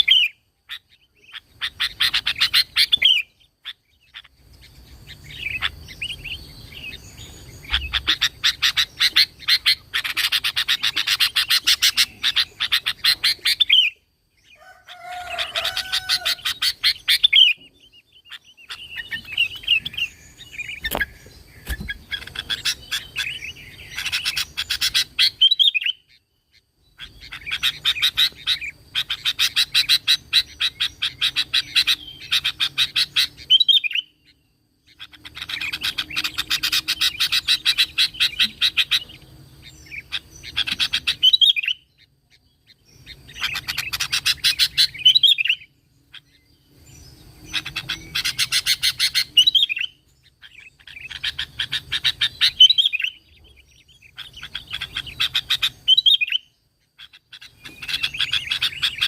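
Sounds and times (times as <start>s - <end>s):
bulbul chattering song: 0.0s - 59.0s.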